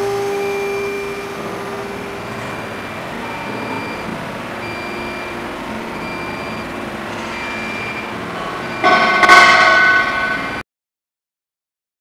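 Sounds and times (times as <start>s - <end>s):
cnc router whining: 0.0s - 10.6s.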